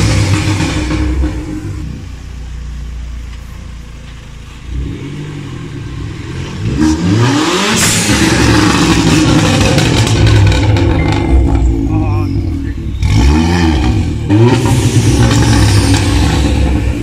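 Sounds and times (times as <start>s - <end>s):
car engine revving: 0.0s - 3.2s, 4.4s - 17.0s.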